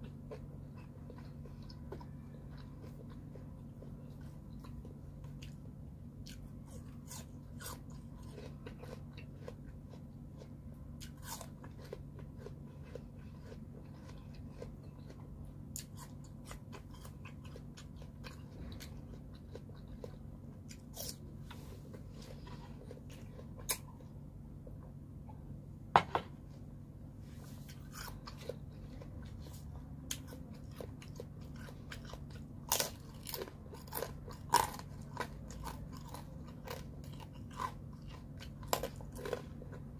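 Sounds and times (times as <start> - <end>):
chewing and crunching pear: 0.0 - 25.4, 27.3 - 39.9
steady low hum: 0.0 - 39.9.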